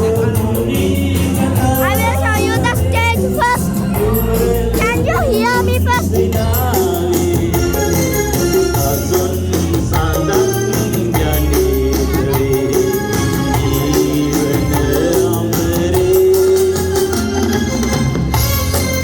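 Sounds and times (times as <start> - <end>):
person singing: 0.0 - 17.1
loud music with heavy bass: 0.0 - 19.0.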